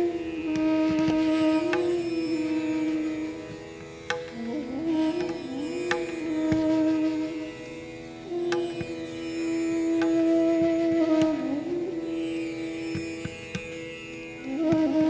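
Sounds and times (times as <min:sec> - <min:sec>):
bamboo flute melody: 0:00.0 - 0:15.0.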